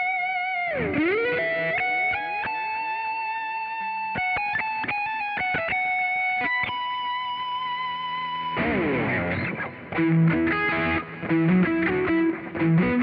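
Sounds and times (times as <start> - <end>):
electric guitar lead lines: 0.0 - 13.0.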